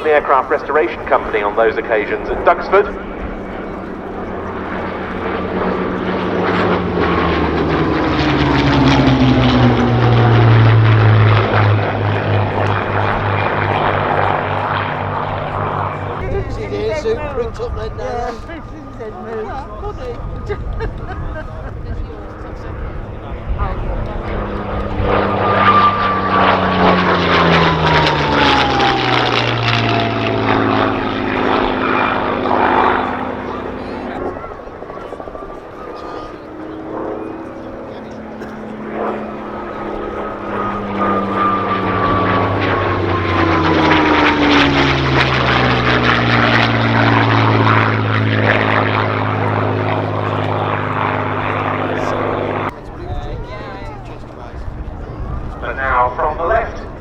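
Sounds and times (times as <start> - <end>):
propeller plane flying past: 0.0 - 57.0.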